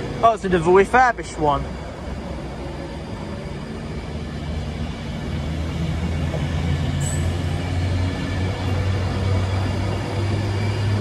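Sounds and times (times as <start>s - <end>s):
passing train rumble and hum: 0.0s - 11.0s.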